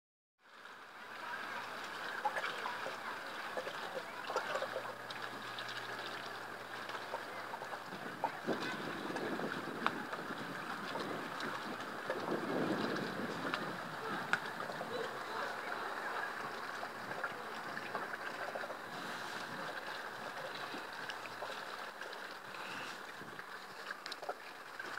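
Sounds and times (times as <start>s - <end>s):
water lapping against boat hull: 0.6s - 24.9s.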